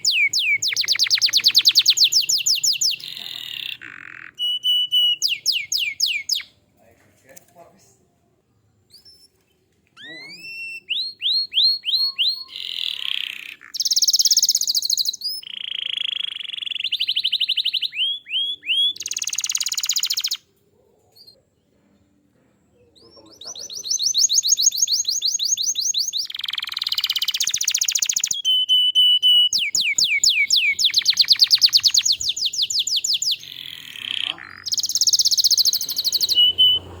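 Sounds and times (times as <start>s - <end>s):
canary singing trills: 0.0s - 6.6s, 8.8s - 20.5s, 22.8s - 37.0s.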